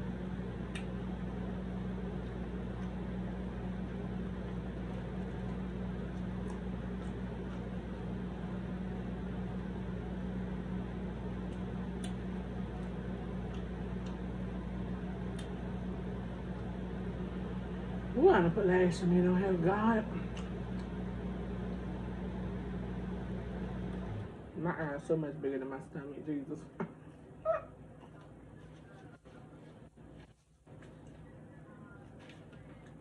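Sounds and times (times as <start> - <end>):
machinery hum: 0.0 - 33.0.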